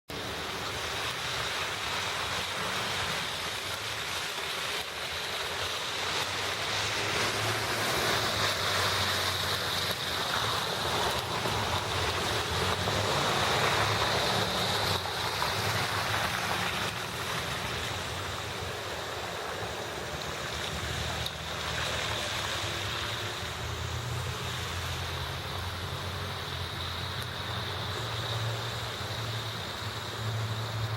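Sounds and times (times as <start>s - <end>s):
wind: 0.0s - 30.9s
traffic: 0.1s - 30.9s.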